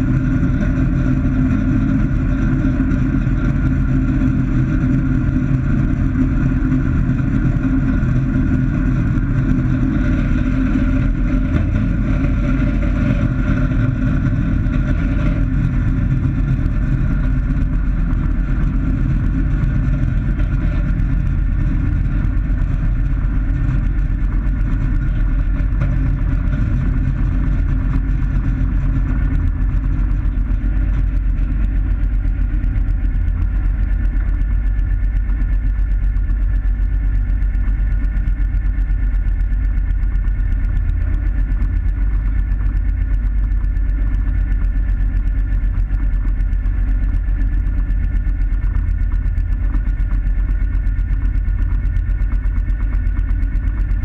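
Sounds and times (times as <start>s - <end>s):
aircraft propeller engine running: 0.0s - 54.0s.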